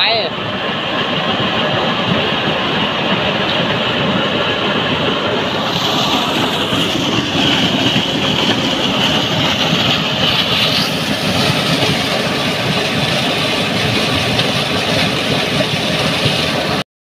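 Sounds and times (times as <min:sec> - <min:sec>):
pump machinery droning: 0:00.0 - 0:16.8
water rushing and splashing: 0:00.0 - 0:16.8.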